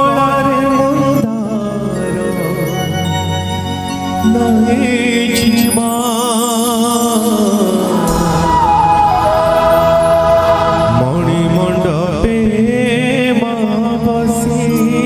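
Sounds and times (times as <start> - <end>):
instrumental accompaniment: 0.0 - 15.0
man singing into a microphone: 0.0 - 15.0.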